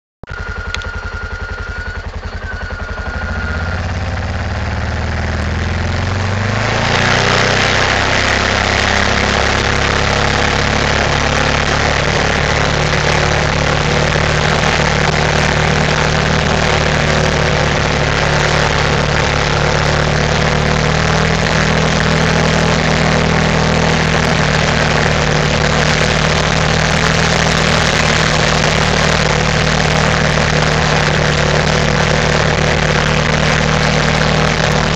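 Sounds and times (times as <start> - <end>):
atv engine pulling away: 0.3 - 34.9
loud rushing noise: 2.6 - 34.9.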